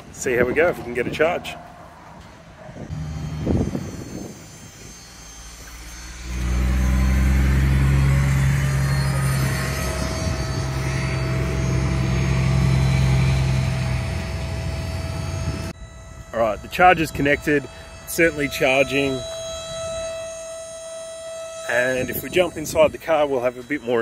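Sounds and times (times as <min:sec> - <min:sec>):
charger low hum: 0:00.0 - 0:24.0
faint high tone: 0:02.9 - 0:24.0.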